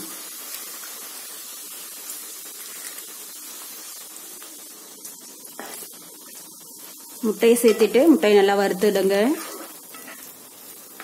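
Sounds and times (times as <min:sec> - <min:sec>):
eggs and onions sizzling: 0:00.0 - 0:11.0.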